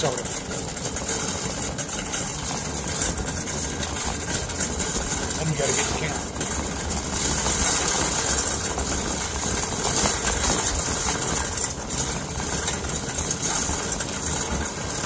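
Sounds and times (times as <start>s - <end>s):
shopping cart wheels rattling: 0.0s - 15.0s.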